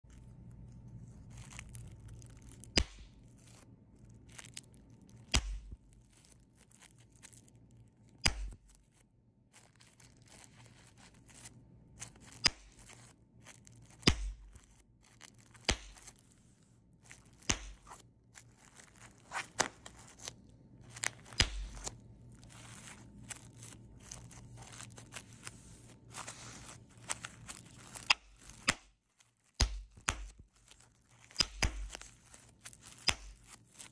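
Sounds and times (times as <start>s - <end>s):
bubble wrap popping: 0.0s - 33.9s
plastic crinkling: 0.0s - 33.9s.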